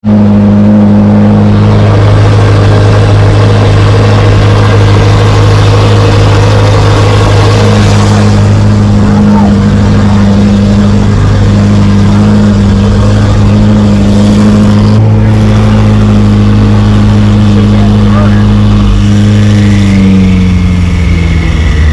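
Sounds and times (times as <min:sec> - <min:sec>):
car engine droning: 0:00.0 - 0:21.9.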